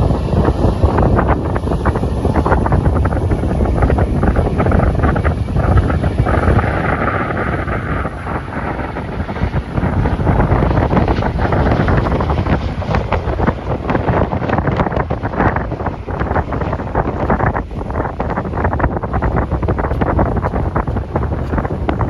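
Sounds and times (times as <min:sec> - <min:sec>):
faint steady whine: 0:00.0 - 0:22.0
wind buffeting microphone: 0:00.0 - 0:22.0.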